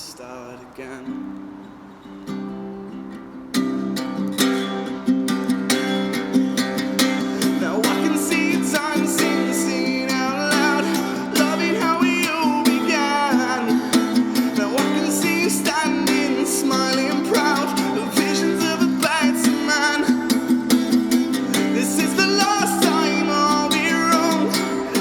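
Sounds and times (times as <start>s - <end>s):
person singing wordless melody: 0.0s - 2.0s, 4.2s - 25.0s
acoustic guitar strumming: 0.0s - 25.0s.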